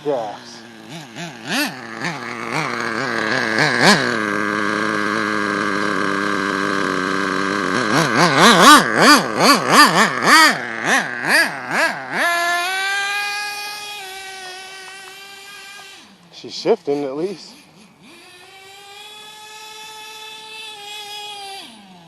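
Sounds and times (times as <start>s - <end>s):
model engine revving: 0.0s - 22.0s.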